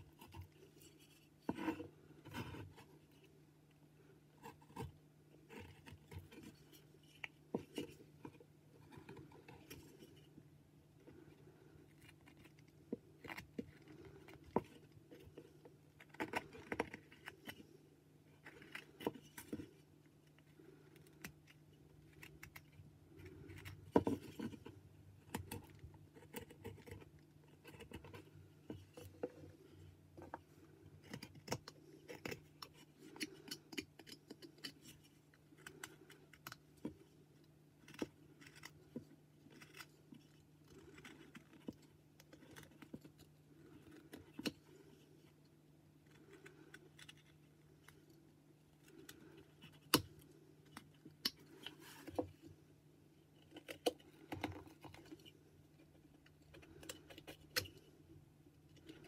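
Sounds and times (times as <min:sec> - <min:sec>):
knife carving wood: 0:00.0 - 0:03.4, 0:04.3 - 0:10.4, 0:11.0 - 0:45.4, 0:46.0 - 0:52.6, 0:53.2 - 0:57.9
faint steady hum: 0:00.0 - 0:59.0.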